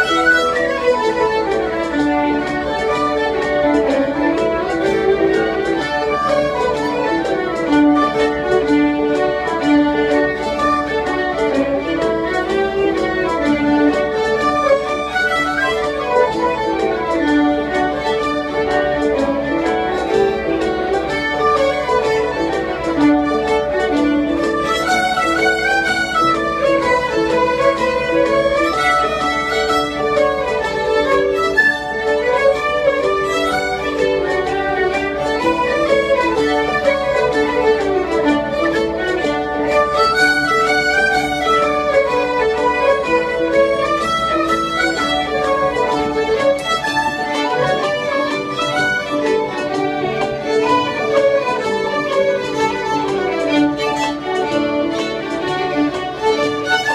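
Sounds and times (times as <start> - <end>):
fiddles playing a tune: 0.0 - 56.9.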